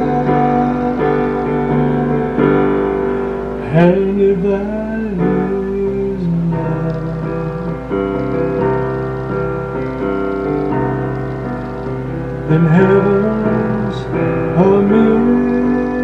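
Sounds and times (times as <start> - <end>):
electronic keyboard piano chords: 0.0 - 16.0.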